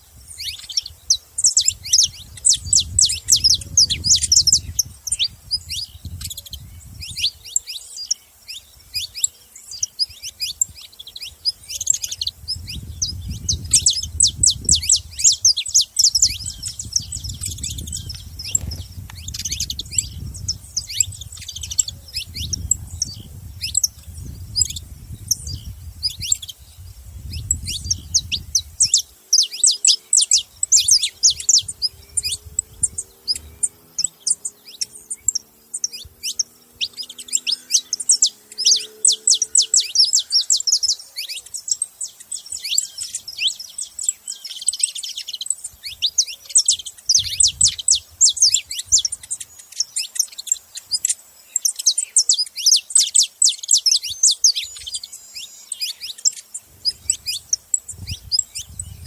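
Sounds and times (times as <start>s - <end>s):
finches chirping: 0.0s - 59.0s.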